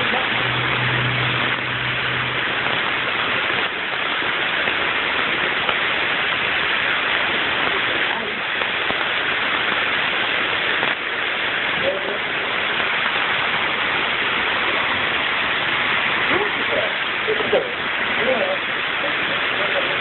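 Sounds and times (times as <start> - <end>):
heavy rain and hail: 0.0 - 20.0.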